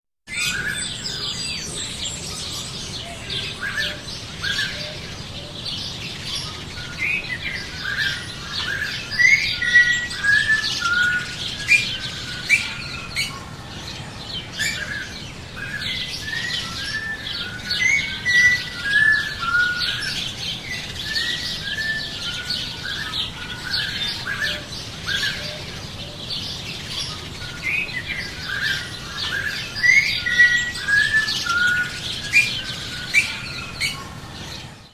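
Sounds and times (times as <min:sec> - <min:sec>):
songbirds chirping and trilling: 0:00.3 - 0:34.9.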